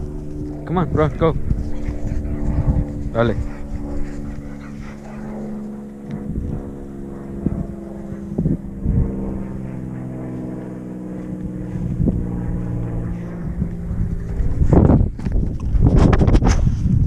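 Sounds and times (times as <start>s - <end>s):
motor droning steadily: 0.0s - 17.0s
wind on microphone: 0.0s - 17.0s.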